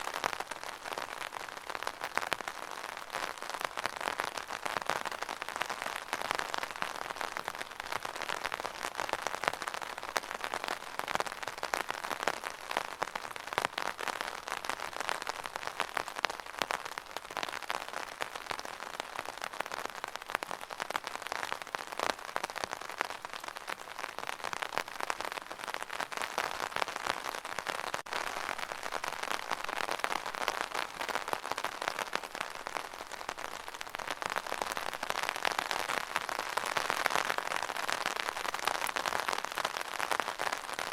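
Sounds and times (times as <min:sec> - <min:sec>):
rain pattering on an umbrella: 0:00.0 - 0:40.9.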